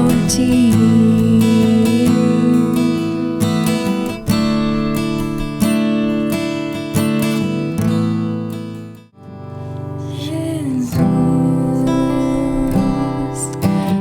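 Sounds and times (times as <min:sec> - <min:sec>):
strummed acoustic guitar chords: 0:00.0 - 0:14.0.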